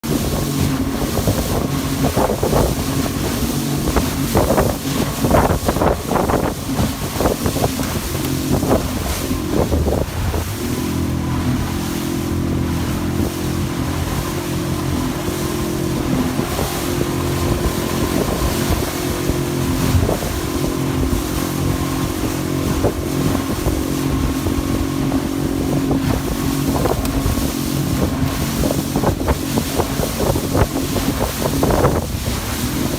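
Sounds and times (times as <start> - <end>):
outboard motor running: 0.0 - 32.9
wind buffeting microphone: 0.0 - 32.9.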